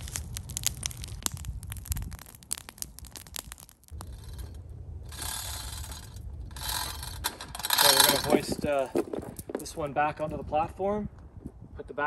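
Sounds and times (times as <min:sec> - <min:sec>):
wood snapping on fire: 0:00.0 - 0:09.8
campfire crackling and popping: 0:00.0 - 0:10.5.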